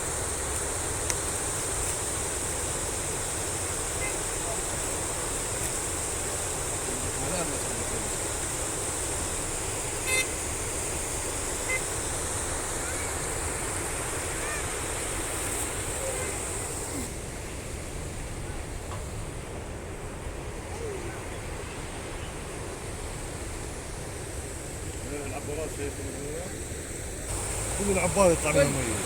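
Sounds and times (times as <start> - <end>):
rainwater rushing in stream: 0.0 - 29.0.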